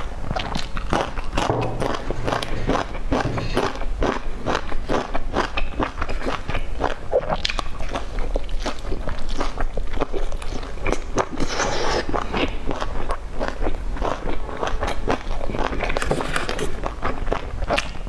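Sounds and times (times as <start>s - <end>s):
wet chewing mouth sounds: 0.0s - 18.0s.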